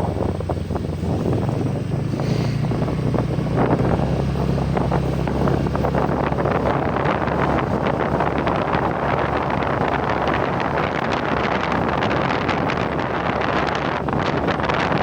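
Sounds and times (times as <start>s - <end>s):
engine humming: 0.0s - 15.0s
wind buffeting microphone: 0.0s - 15.0s.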